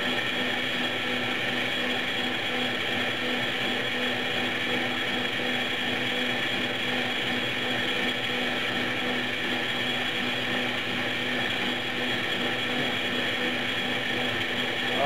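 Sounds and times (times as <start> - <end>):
electric go-kart motor running: 0.0 - 15.0.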